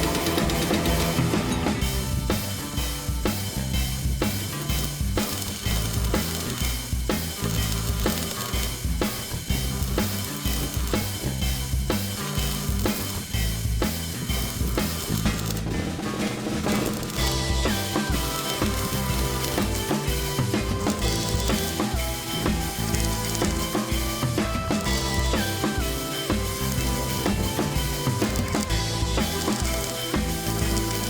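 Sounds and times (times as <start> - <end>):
music with drum beat and bass: 0.0 - 31.0.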